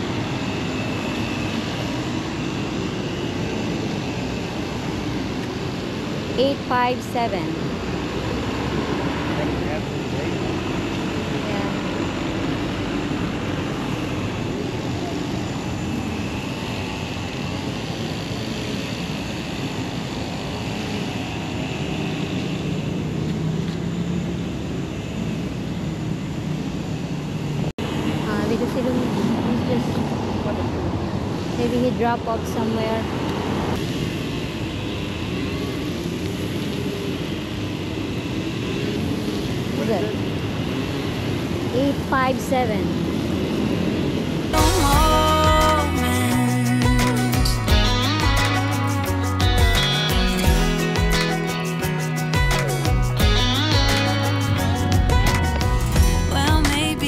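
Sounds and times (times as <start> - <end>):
city road traffic roar: 0.0 - 57.0
vehicle engine hum: 0.0 - 57.0.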